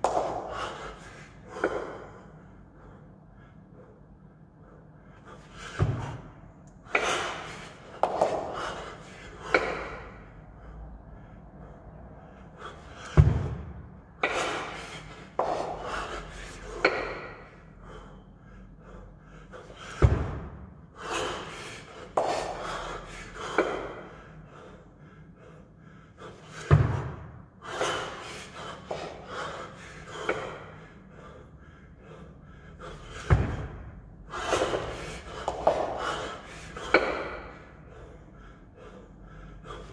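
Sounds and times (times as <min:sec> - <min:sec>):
sharp hard breaths: 0:00.0 - 0:39.9.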